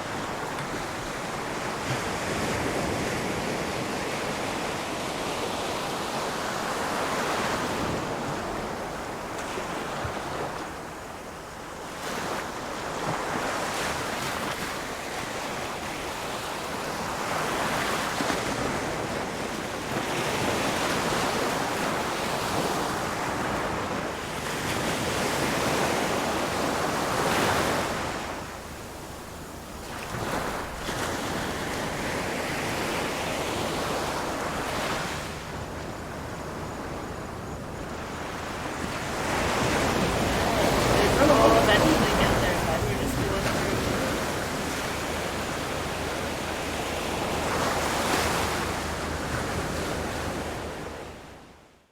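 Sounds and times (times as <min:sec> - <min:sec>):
ocean surf breaking on shore: 0:00.0 - 0:51.5.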